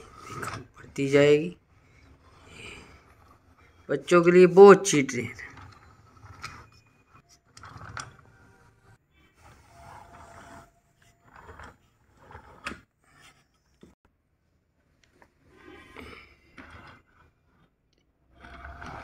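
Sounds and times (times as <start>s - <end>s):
toy train rolling on plastic track: 0.0s - 13.4s, 15.6s - 19.0s.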